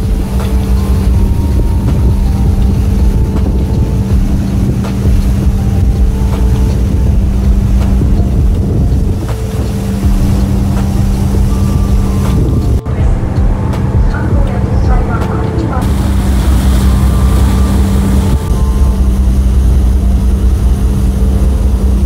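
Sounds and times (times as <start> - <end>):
ship engines droning: 0.0 - 22.0
wind buffeting microphone: 0.0 - 22.0.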